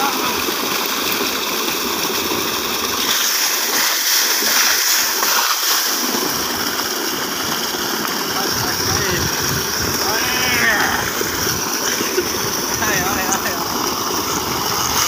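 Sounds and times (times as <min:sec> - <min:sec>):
heavy water splashing: 0:00.0 - 0:15.0
water gushing from a pipe: 0:00.0 - 0:15.0.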